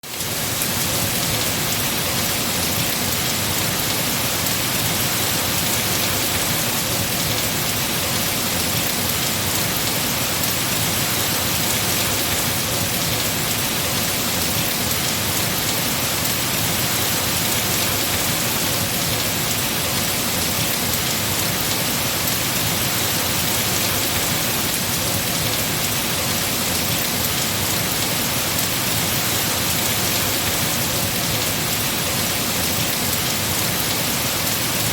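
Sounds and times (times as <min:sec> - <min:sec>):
heavy rain on leaves: 0:00.0 - 0:34.9.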